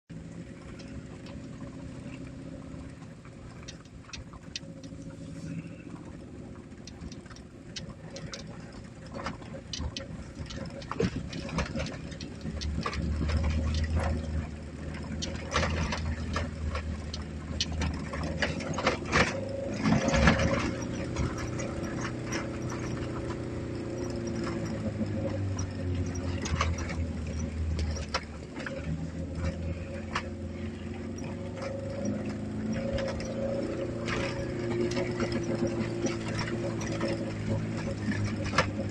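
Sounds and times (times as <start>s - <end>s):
rough car engine running: 0.1s - 38.9s
car knocks and rattles: 2.9s - 38.9s.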